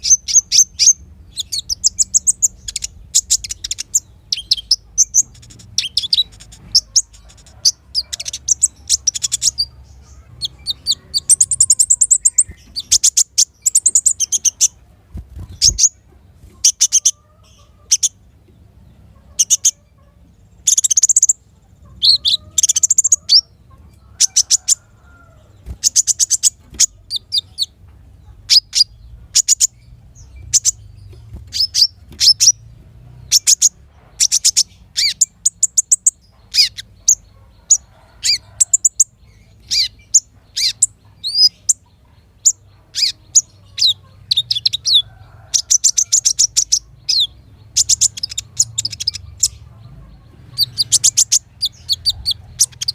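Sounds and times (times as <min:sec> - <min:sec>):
bird high chirps and trills: 0:00.0 - 0:52.9.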